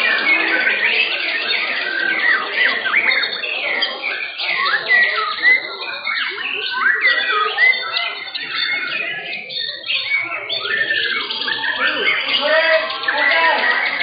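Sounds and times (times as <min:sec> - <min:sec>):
birds chattering notes: 0:00.0 - 0:14.0
songbirds singing whistles: 0:00.0 - 0:14.0.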